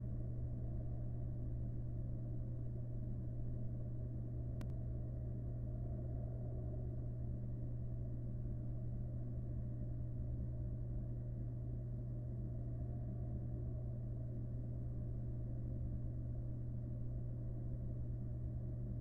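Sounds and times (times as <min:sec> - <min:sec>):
low electrical hum and rumble: 0:00.0 - 0:19.0.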